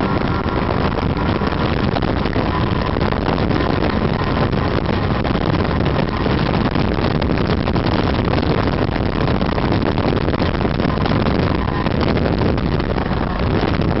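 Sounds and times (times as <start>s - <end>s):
snowmobile engine and track: 0.0s - 14.0s
wind buffeting microphone: 0.0s - 14.0s.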